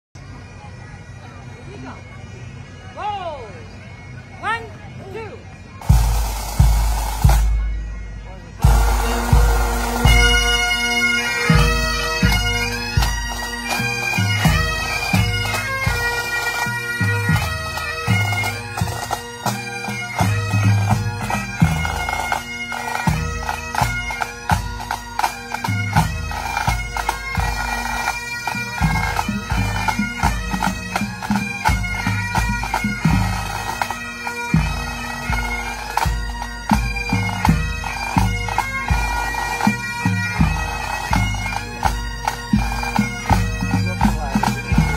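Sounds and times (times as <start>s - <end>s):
bagpipes playing a tune: 0.2s - 44.9s.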